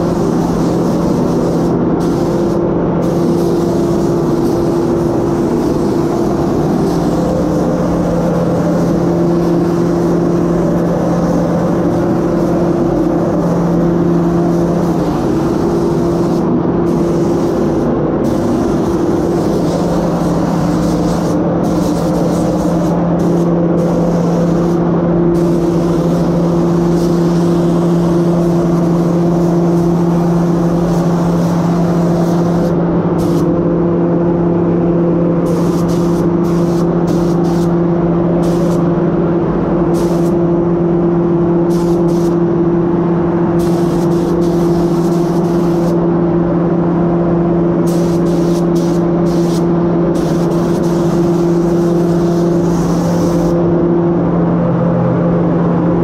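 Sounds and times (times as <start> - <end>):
spray gun hissing air: 0.0 - 39.1, 39.8 - 46.2, 47.6 - 53.9
steady low hum: 0.0 - 56.0.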